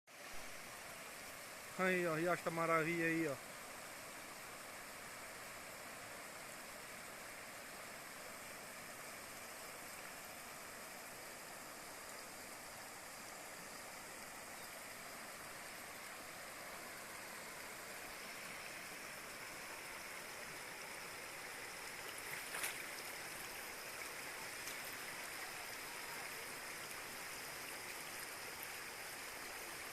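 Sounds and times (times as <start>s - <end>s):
creek rushing: 0.1s - 29.9s.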